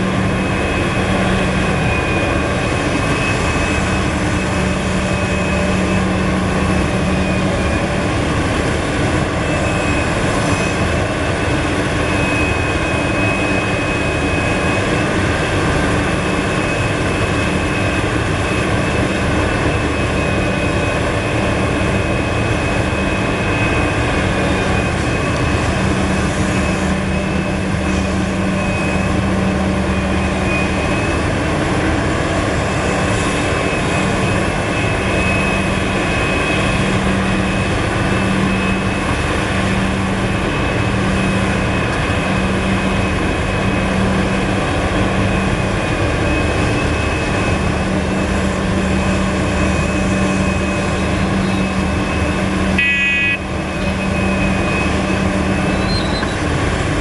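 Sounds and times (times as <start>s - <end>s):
heavy diesel engine drone: 0.0s - 57.0s
high hydraulic whine: 0.0s - 57.0s.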